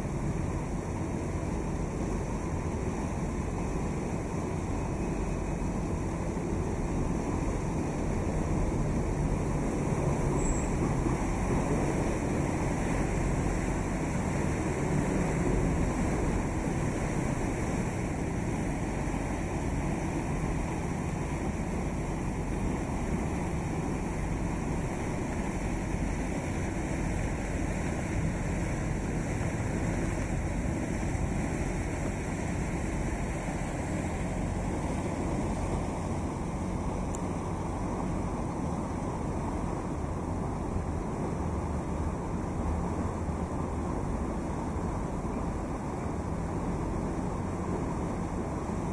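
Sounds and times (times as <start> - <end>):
water rushing past boat: 0.0 - 48.9.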